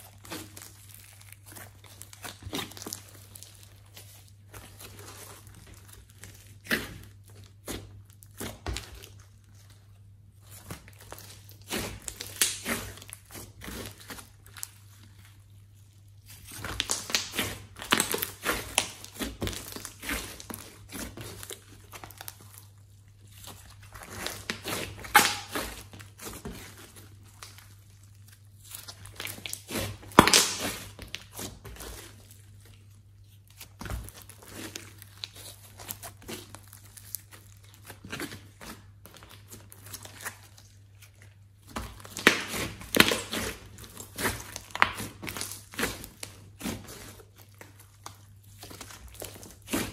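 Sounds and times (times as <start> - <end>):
slime crackling and popping: 0.0 - 49.9.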